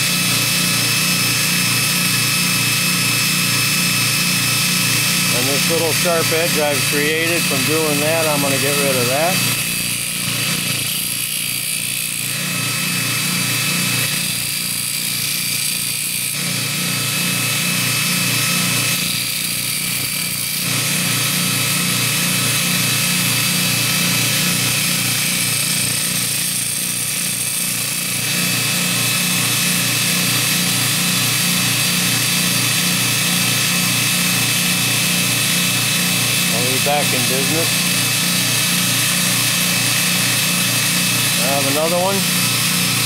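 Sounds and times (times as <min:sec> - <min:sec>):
belt grinder grinding steel: 0:00.0 - 0:43.0.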